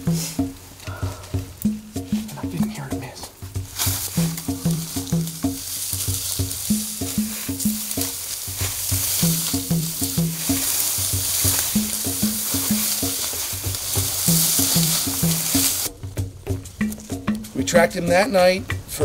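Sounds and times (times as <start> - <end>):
dry grass rustling underfoot: 0.0 - 18.8
background music with low notes: 0.0 - 19.0.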